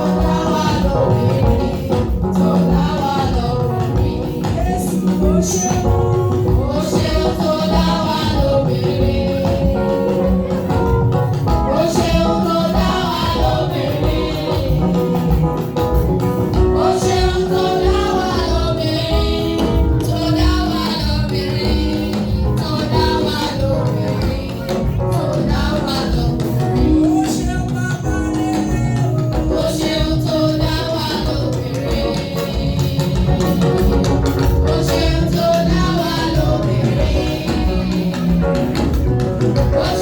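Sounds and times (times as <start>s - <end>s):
choir and band playing praise song: 0.0s - 40.0s.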